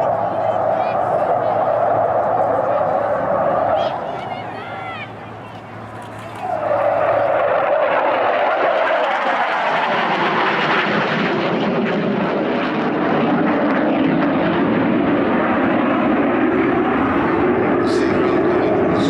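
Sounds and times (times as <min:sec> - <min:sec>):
aircraft engine rushing: 0:00.0 - 0:19.0.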